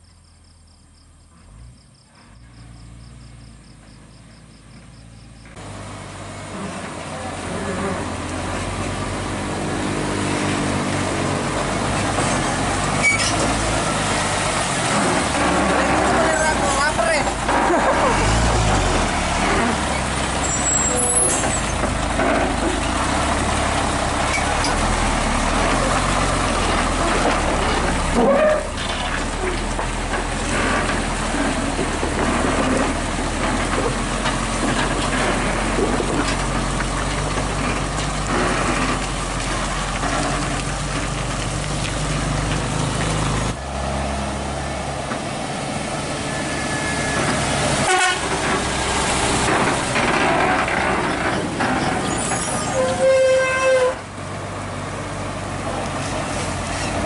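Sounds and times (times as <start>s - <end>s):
truck diesel engine running: 2.2s - 57.0s.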